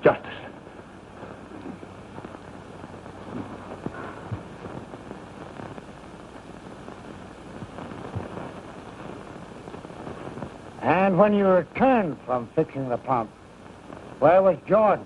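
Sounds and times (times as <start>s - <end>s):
film soundtrack hiss and crackle: 0.0s - 15.0s.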